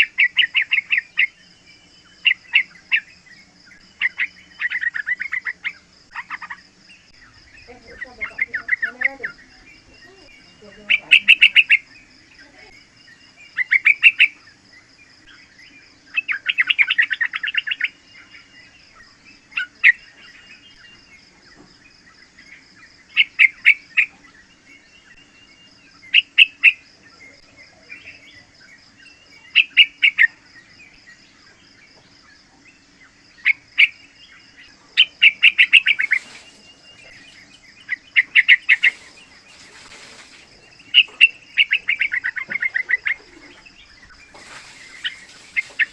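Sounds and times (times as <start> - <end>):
bird chattering calls: 0.0 - 15.4, 16.0 - 21.2, 22.3 - 31.2, 32.2 - 45.9.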